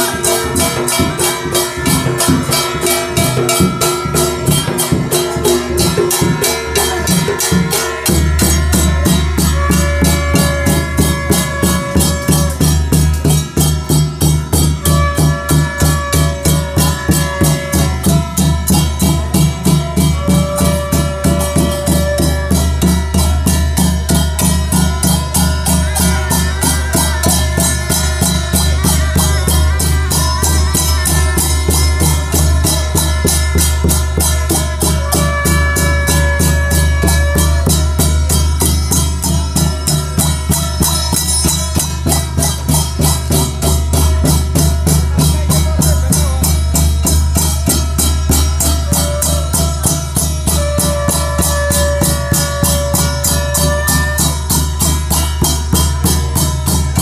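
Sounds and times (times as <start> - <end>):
fast drumming: 0.0 - 57.0
jingling percussion: 0.0 - 57.0.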